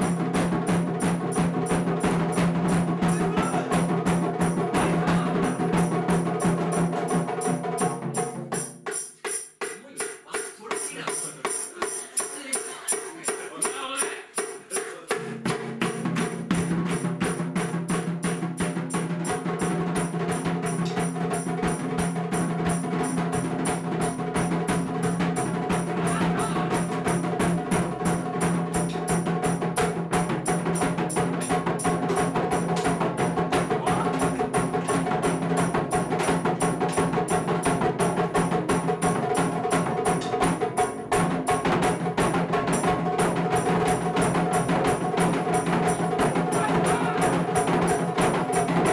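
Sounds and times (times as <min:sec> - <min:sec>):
drum ensemble fast strikes: 0:00.0 - 0:48.9.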